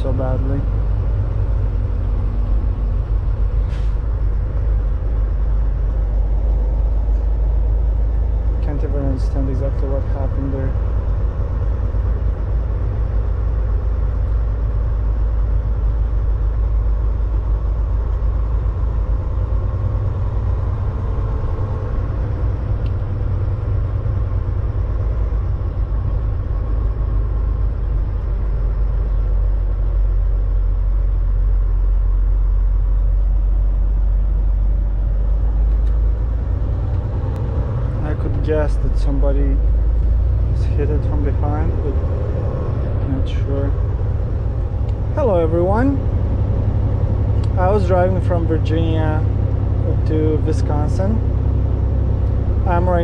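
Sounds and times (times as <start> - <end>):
truck diesel engine rumbling: 0.0 - 53.0.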